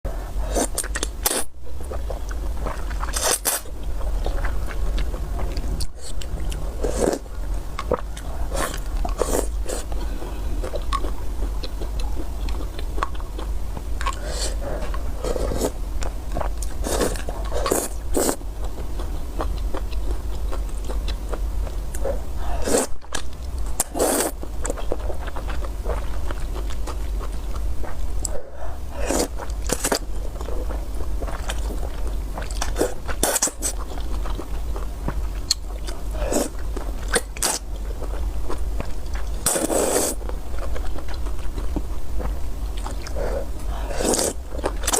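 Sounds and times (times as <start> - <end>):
steady low hum: 0.1 - 44.9
chewing and mouth sounds: 0.5 - 44.9.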